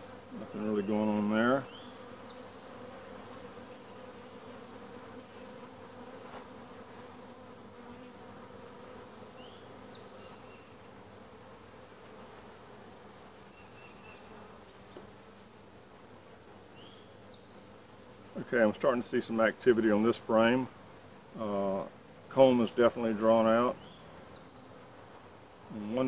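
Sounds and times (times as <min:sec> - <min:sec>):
honey bees buzzing: 0:00.0 - 0:26.0.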